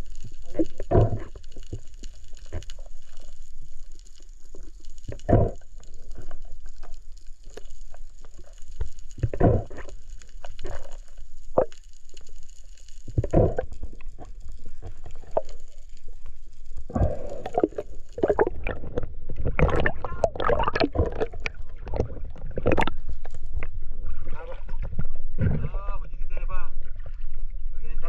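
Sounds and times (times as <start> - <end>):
underwater gurgles: 0.0 - 28.0
water splashing and sloshing: 0.0 - 28.0.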